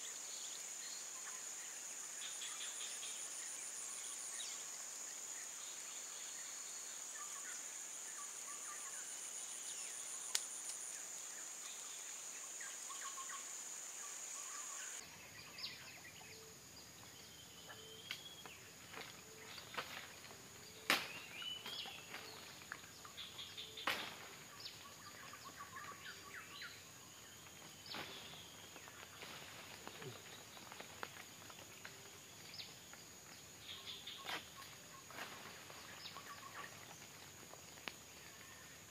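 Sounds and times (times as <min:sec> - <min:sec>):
insects buzzing drone: 0:00.0 - 0:38.9.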